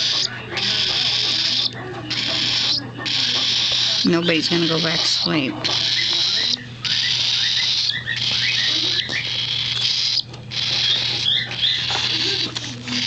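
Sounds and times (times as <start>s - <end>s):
baby bird raspy begging hiss: 0.1s - 13.0s.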